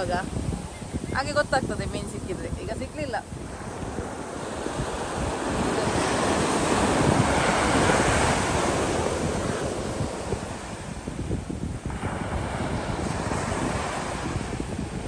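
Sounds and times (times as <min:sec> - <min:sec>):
sea waves washing in: 0:00.0 - 0:15.0
wind buffeting microphone: 0:00.0 - 0:15.0.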